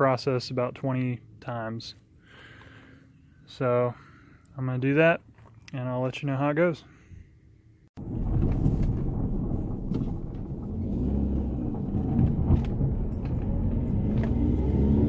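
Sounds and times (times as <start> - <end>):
low rumble of road noise: 0.0 - 15.0.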